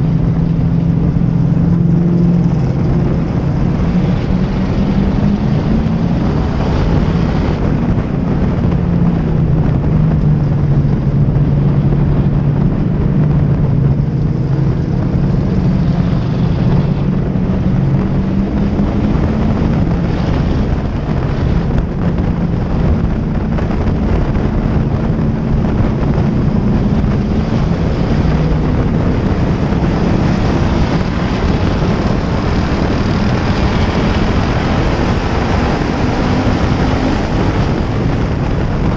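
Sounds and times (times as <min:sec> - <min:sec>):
race car engine running hard: 0:00.0 - 0:38.9
wind rushing over microphone: 0:00.0 - 0:38.9.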